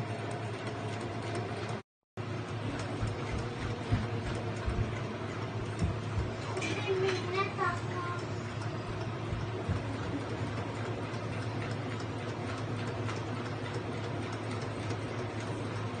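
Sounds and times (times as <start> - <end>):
sewing machine stitching: 0.0 - 16.0.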